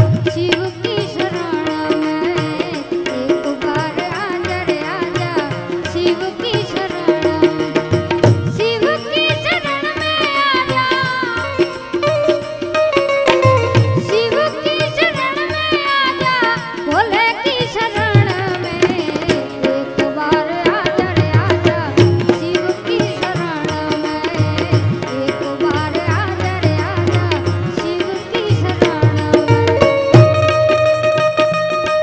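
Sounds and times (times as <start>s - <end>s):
small hand cymbals: 0.0s - 19.6s, 22.0s - 32.0s
hand drums: 0.0s - 32.0s
harmonium: 0.0s - 32.0s
woman singing devotional song: 0.0s - 32.0s.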